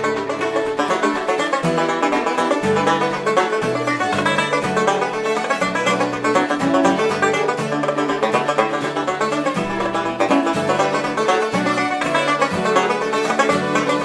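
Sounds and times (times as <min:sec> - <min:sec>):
acoustic guitar accompaniment: 0:00.0 - 0:14.0
banjo picking: 0:00.0 - 0:14.0
fiddle: 0:00.0 - 0:14.0.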